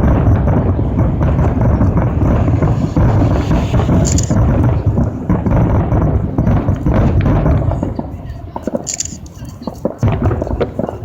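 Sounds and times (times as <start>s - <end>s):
fireworks booming and crackling: 0.0s - 11.0s.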